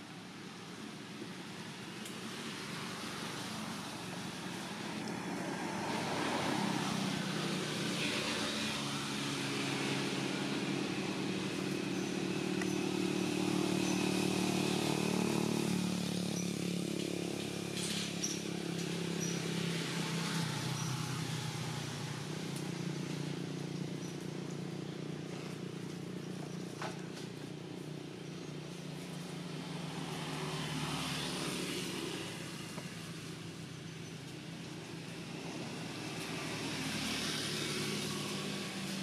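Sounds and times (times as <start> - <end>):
vehicle engine running: 5.9 - 39.0.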